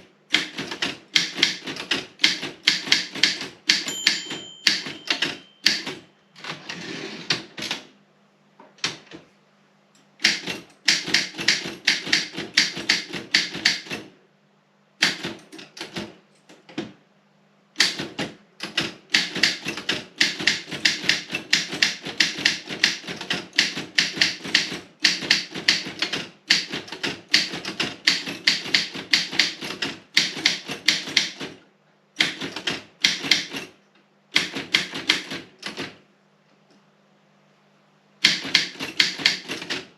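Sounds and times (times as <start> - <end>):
typewriter keystrokes: 0.3 - 7.9, 10.2 - 14.1, 15.0 - 17.0, 17.8 - 31.6, 32.2 - 36.0, 38.2 - 39.9.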